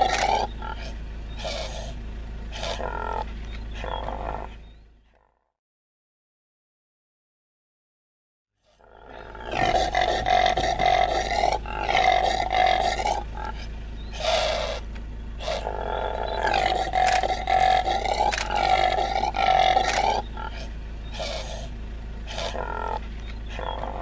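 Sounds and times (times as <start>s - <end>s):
impala calling: 0.0s - 5.4s, 8.7s - 24.0s.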